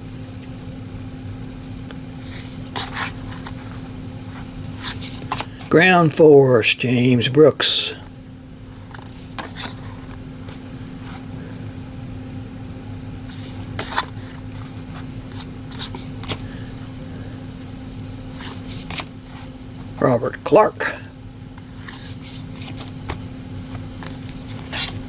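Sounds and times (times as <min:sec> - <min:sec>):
steady low hum: 0:00.0 - 0:25.0
trading cards rustling and scraping: 0:02.2 - 0:06.3, 0:07.0 - 0:11.7, 0:13.2 - 0:25.0.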